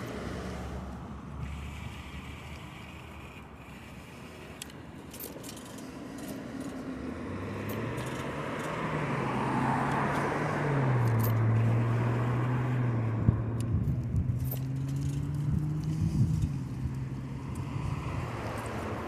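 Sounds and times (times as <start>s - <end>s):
vehicle passing by: 0.0s - 4.4s, 5.4s - 19.0s.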